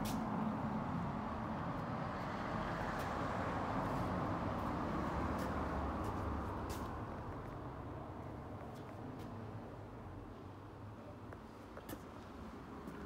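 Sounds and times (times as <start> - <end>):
passing vehicle engine and tyres: 0.0 - 13.0.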